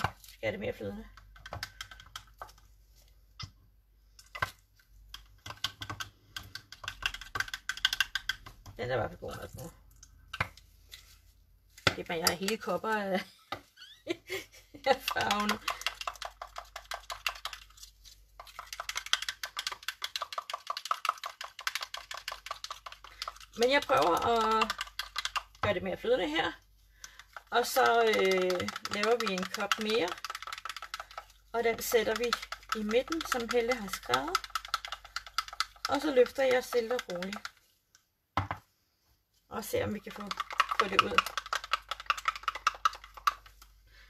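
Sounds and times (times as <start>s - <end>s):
stirring stick tapping plastic cup: 0.0s - 0.4s, 1.0s - 13.7s, 14.9s - 38.7s, 39.8s - 43.8s.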